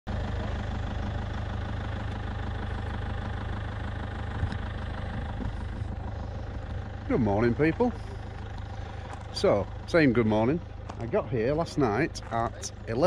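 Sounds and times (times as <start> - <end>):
van engine idling: 0.1 - 13.0.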